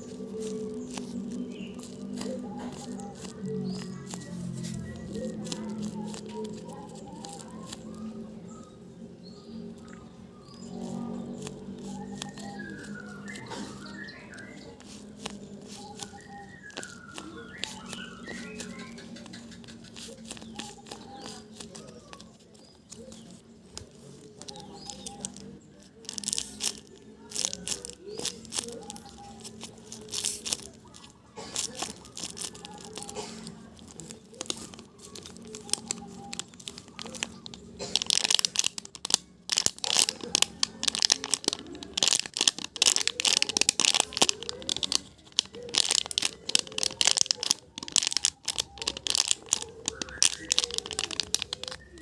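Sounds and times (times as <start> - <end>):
squishy toy crinkling and crackling: 0.0 - 52.0.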